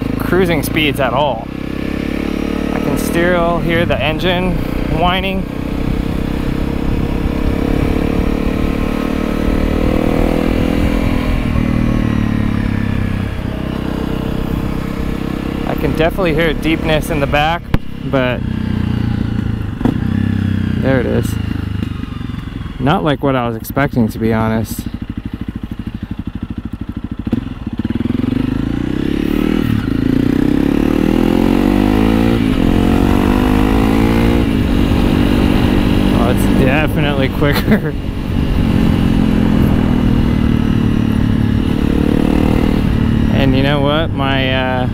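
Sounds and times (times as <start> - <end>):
motorcycle engine whine: 0.0 - 44.9.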